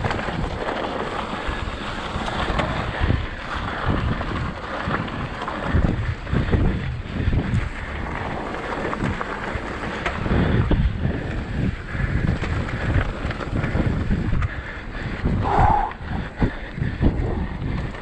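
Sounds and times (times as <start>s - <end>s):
bike rolling over rough trail: 0.0s - 18.0s
wind buffeting microphone: 0.0s - 18.0s.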